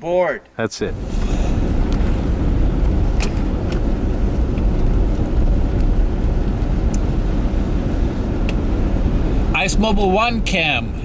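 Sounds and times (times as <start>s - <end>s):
vehicle engine and wheels rumbling: 0.8s - 11.0s.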